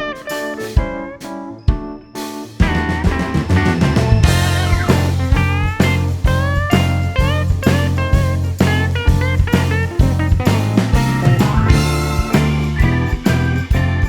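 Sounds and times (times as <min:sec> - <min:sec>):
guitar-led band music: 0:00.0 - 0:14.0.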